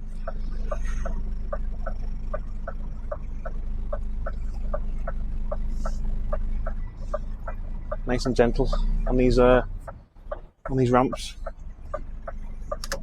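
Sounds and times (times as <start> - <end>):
diesel engine running: 0.0 - 13.0
regular chirp: 0.0 - 13.0.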